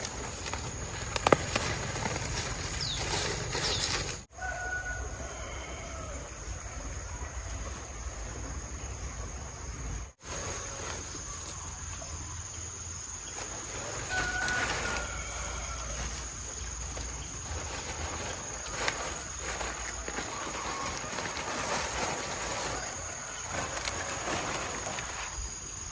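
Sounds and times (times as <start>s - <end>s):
high-pitched insect chorus: 0.0s - 25.9s
rustling of leafy greens: 0.0s - 25.9s.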